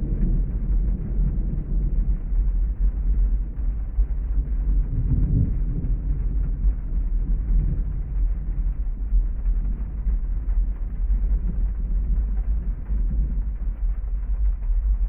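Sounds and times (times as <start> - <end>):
muffled heavy rain rumble: 0.0 - 15.0.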